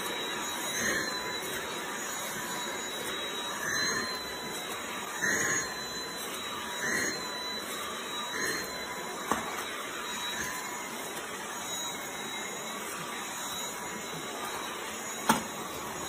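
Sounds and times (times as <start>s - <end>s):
stick vacuum cleaner whining: 0.0s - 16.0s.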